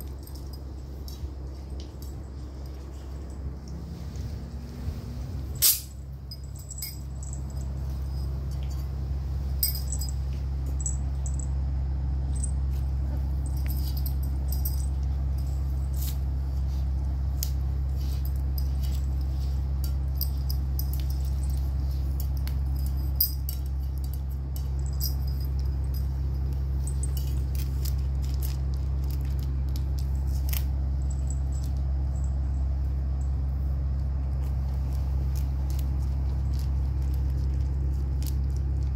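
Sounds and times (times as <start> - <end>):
puppies crunching kibble: 0.0 - 4.5, 5.6 - 38.9
steady low hum: 0.0 - 38.9.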